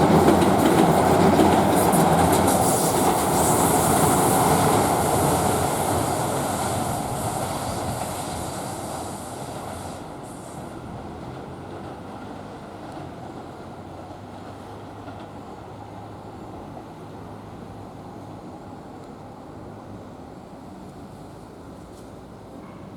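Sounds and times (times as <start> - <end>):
electric train running on track: 0.0 - 22.9.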